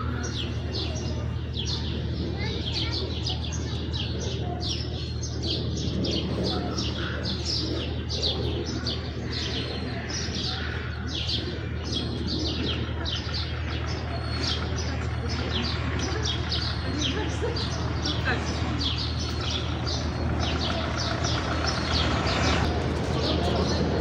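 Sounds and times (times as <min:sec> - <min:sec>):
low hum: 0:00.0 - 0:24.0
sparrows chirping: 0:00.0 - 0:24.0.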